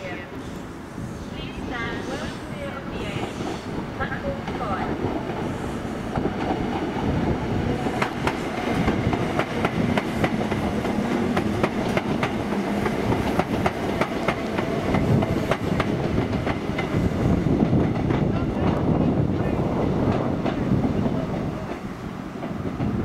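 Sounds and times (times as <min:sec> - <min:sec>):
train rumble: 0:00.0 - 0:23.0
train wheels clicking over joints: 0:03.1 - 0:23.0.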